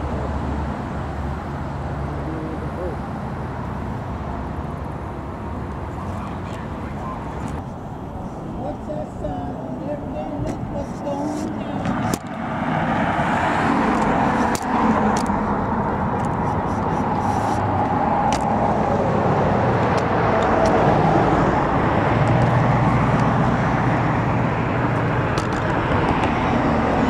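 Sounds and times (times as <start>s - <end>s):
highway traffic rushing: 0.0s - 27.0s.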